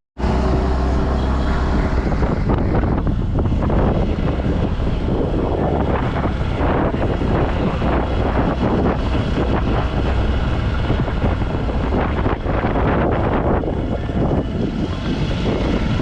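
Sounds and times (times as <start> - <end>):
wind noise on microphone: 0.2 - 16.0.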